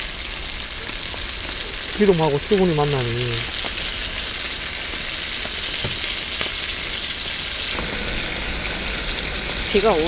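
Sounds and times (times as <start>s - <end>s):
meat frying in oil with pops: 0.0s - 10.0s.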